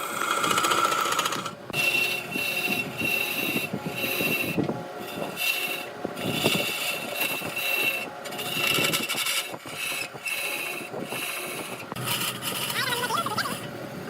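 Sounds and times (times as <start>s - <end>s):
turning tool scraping wood: 0.0s - 13.6s
wood lathe turning: 0.0s - 13.8s.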